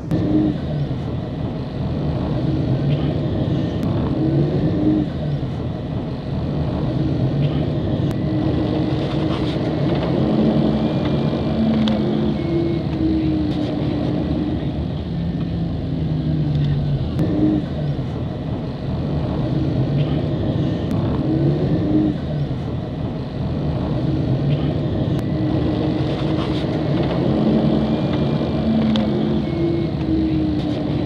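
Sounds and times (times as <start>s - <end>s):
tram motor hum: 0.0s - 31.0s
tram wheels rumbling on rails: 0.0s - 31.0s.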